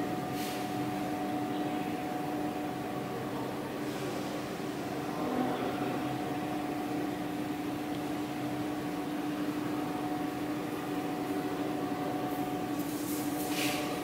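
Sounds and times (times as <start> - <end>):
diesel generator running: 0.0 - 14.0.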